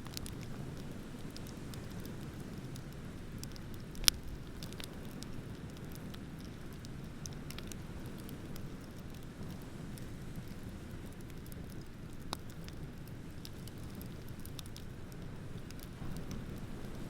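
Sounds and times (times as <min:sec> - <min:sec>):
bonfire crackling: 0:00.0 - 0:17.0.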